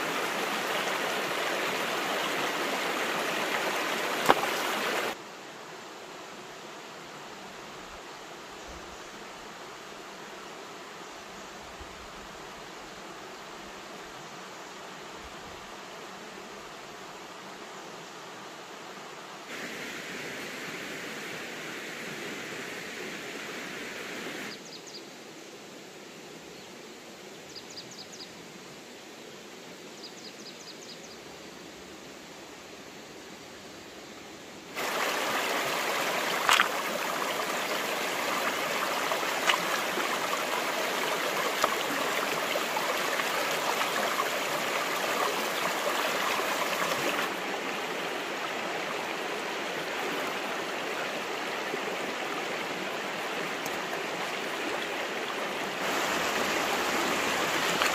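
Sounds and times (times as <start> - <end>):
stream water babbling: 0.0 - 17.6, 18.3 - 24.6, 34.5 - 57.9.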